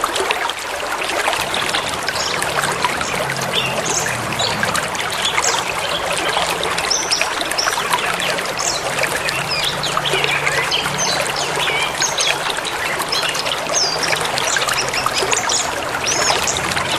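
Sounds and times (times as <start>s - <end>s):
river rushing: 0.0s - 16.9s
small birds chirping: 1.1s - 16.9s.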